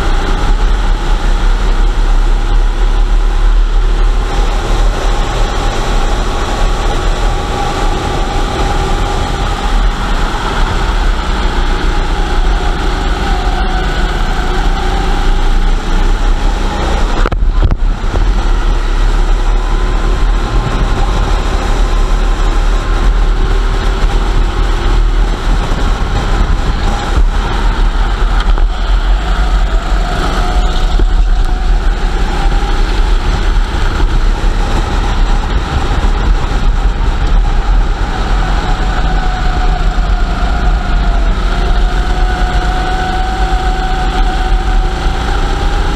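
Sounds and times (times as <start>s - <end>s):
racing kart engine revving: 0.0s - 45.9s
steady low rumble: 0.0s - 45.9s.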